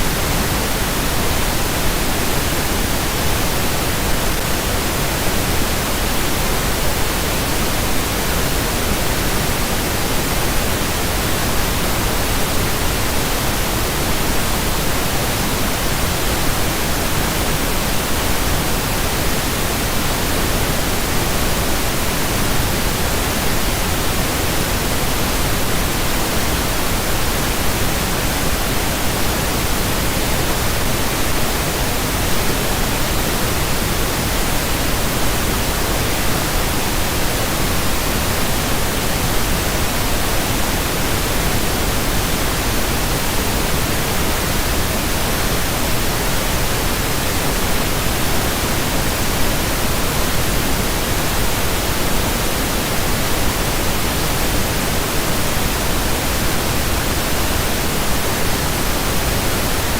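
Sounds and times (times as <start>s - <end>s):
pink noise hiss: 0.0s - 59.9s.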